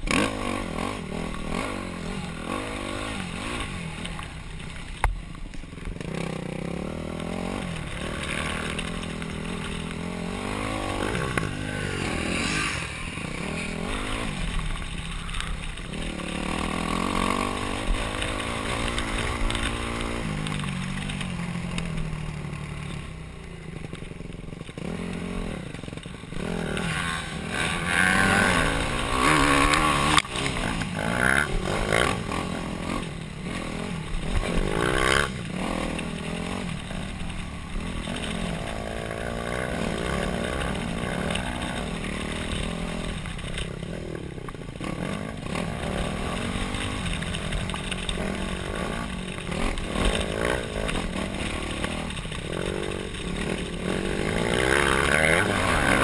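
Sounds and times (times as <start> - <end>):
dirt bike engine revving: 0.0 - 5.0, 5.8 - 56.0.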